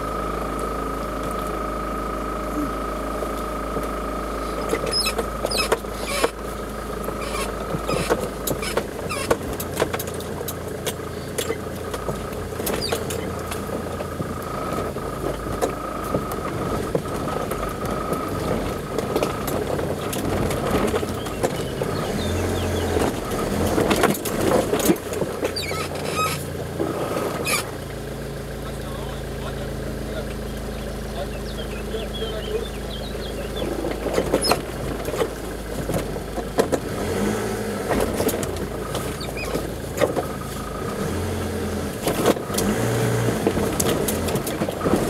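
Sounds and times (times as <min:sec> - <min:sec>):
off-road vehicle engine crawling: 0:00.0 - 0:45.0.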